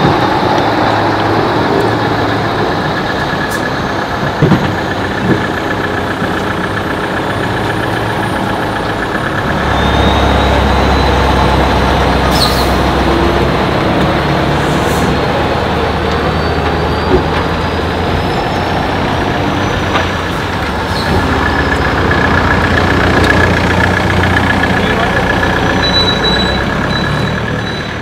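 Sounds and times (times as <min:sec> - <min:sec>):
truck diesel engine under load: 0:00.0 - 0:28.0.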